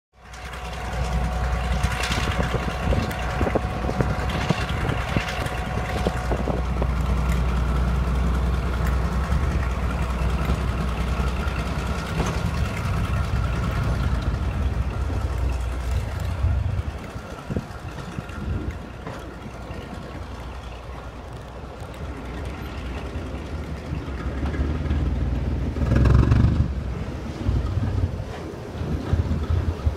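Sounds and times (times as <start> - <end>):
locomotive diesel engines droning: 0.1 - 29.9.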